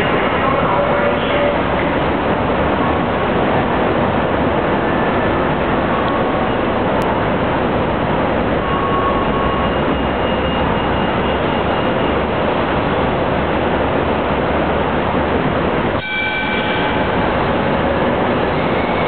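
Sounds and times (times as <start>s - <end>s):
light rail train rolling: 0.0s - 19.0s
multi-tone whine: 0.0s - 19.0s.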